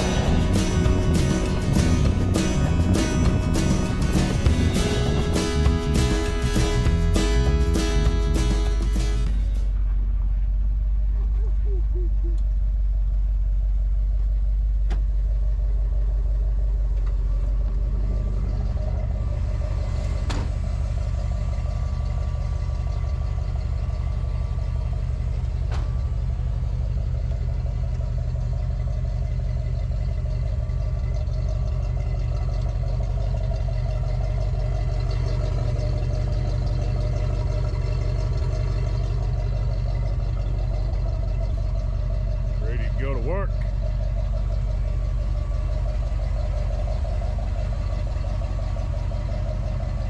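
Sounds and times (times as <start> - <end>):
truck engine idling: 0.0 - 50.0.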